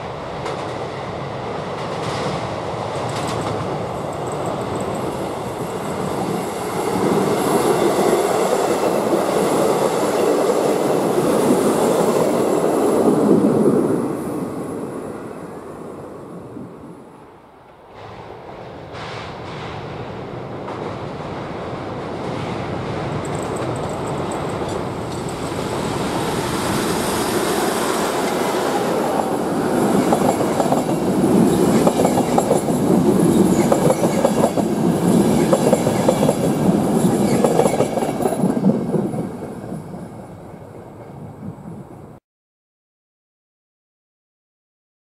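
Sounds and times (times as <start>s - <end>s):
train wheels rumbling on rails: 0.0s - 15.3s, 17.6s - 42.2s.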